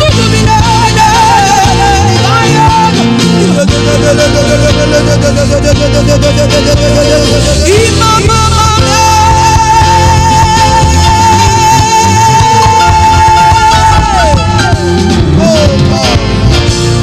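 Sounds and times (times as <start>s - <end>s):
live worship band music: 0.0s - 17.0s.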